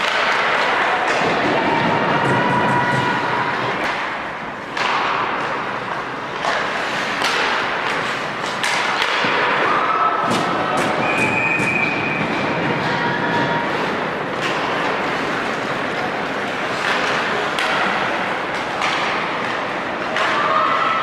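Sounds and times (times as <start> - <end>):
sticks and puck knocking: 0.0 - 9.6, 10.3 - 20.6
arena noise: 0.0 - 21.0
skates scraping ice: 0.0 - 21.0.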